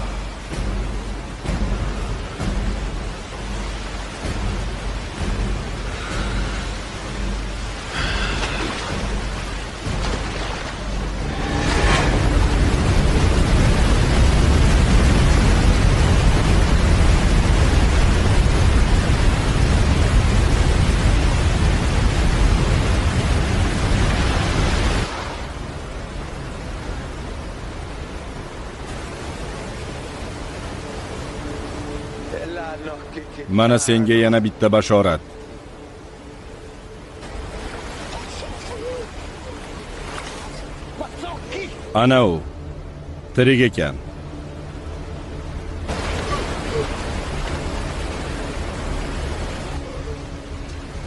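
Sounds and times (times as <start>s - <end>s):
rushing river rapids: 0.0s - 51.0s.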